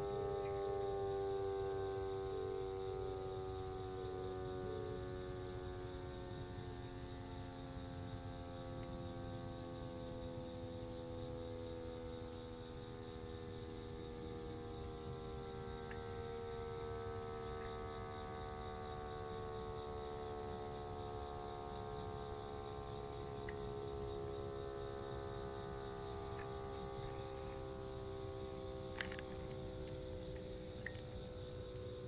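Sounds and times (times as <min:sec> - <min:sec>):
electric motor siren droning: 0:00.0 - 0:32.0.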